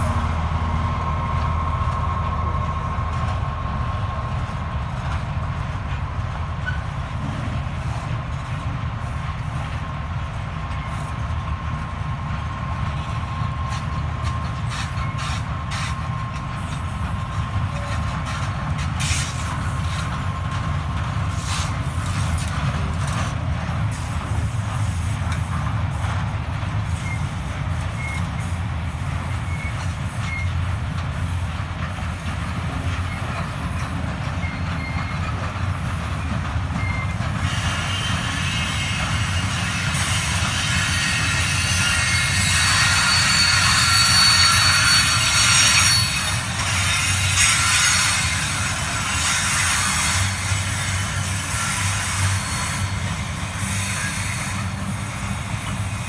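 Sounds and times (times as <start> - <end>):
freight train rumbling past: 0.0 - 56.0
train wheels squealing: 6.6 - 8.0, 10.7 - 11.3, 12.9 - 56.0.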